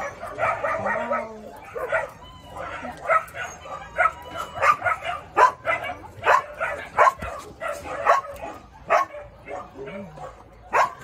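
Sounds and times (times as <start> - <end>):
young dogs barking and yipping: 0.0 - 11.0.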